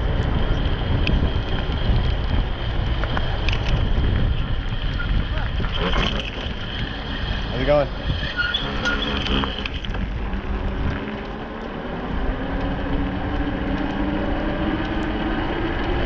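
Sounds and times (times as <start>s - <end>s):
electric bike motor whining: 0.0s - 16.0s
wind rumble on microphone: 0.0s - 16.0s.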